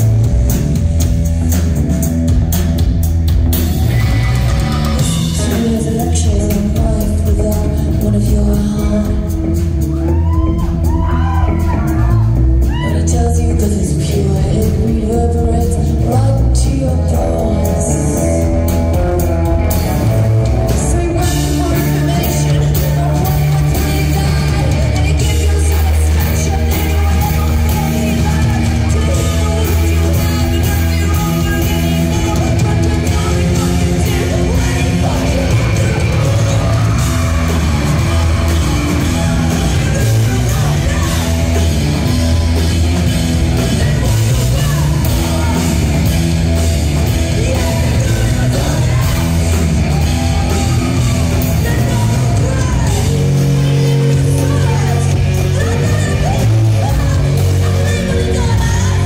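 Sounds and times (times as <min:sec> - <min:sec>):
drums: 0:00.0 - 0:59.0
electric guitars: 0:00.0 - 0:59.0
rock band playing live: 0:00.0 - 0:59.0
woman singing: 0:03.9 - 0:59.0.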